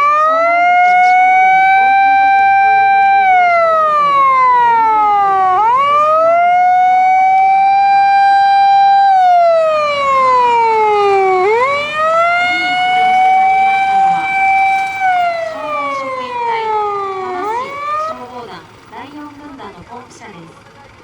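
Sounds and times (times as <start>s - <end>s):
fire engine siren wailing: 0.0s - 21.0s.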